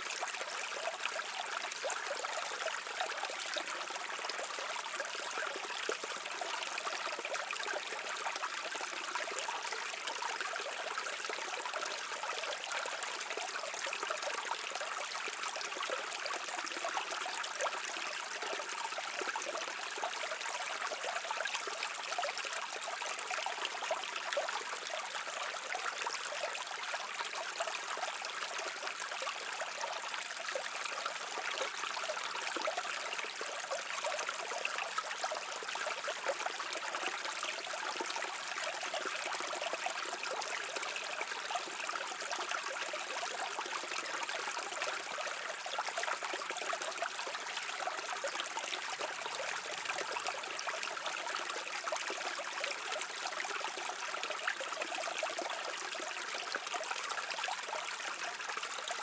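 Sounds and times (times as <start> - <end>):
brook flowing: 0.0 - 59.0.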